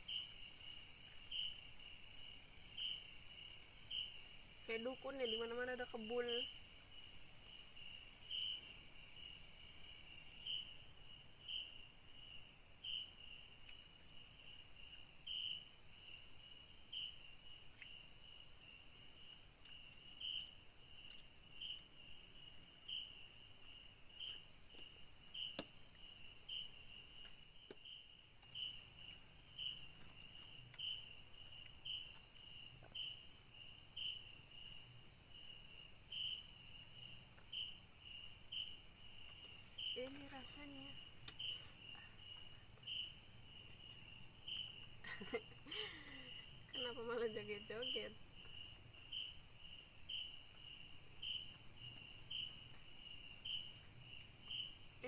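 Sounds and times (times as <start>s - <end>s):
insect chirp: 0.0s - 55.0s
insects buzzing: 0.0s - 55.0s.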